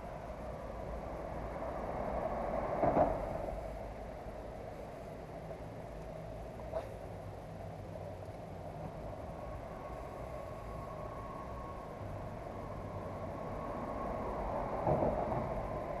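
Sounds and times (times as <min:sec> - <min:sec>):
road traffic rumble overhead: 0:00.0 - 0:16.0.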